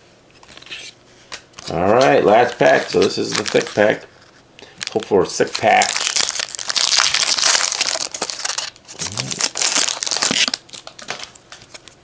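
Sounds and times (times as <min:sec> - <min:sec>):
card pack wrapper crinkling: 0:01.6 - 0:12.0.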